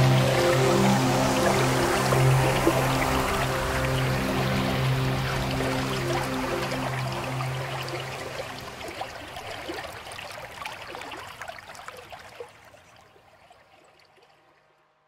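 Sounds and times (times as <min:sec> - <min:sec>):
water trickling and babbling: 0:00.0 - 0:15.0.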